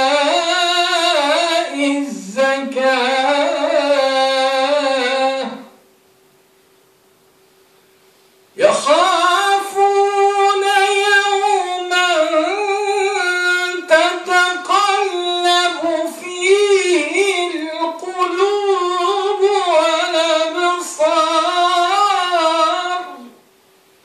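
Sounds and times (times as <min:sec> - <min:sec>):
man chanting into a microphone: 0:00.0 - 0:05.8, 0:08.6 - 0:23.4.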